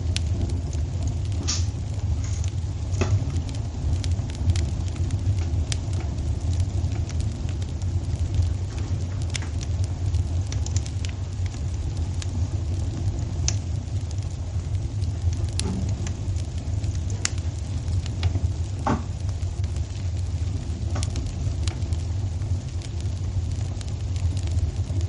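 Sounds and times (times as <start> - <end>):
low rumble: 0.0 - 25.0
wood fire crackling: 0.0 - 25.0.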